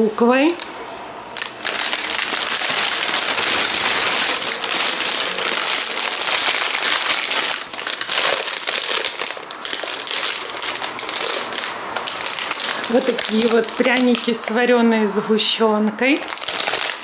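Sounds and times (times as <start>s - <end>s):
plastic packaging crinkling: 0.5s - 14.6s, 16.2s - 17.0s.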